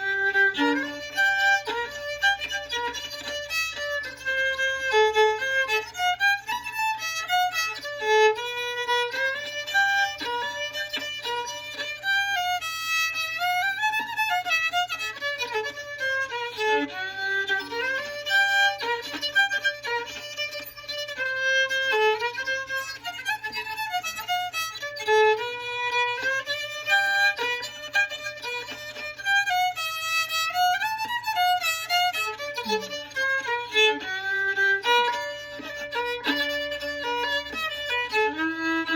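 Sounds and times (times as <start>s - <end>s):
solo fiddle tune: 0.0s - 38.9s.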